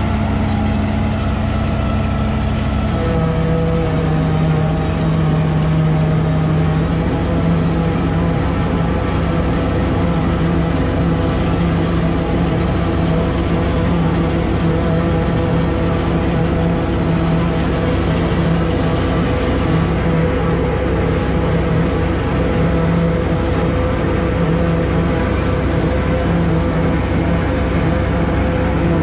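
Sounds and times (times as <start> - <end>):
forage harvester chopping and blowing: 0.0 - 29.0
tractor diesel engine under load: 0.0 - 29.0.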